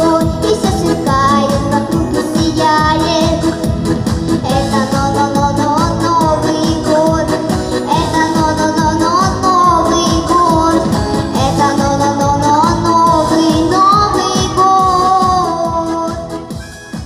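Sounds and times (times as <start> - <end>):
rhythmic accompaniment: 0.0 - 17.0.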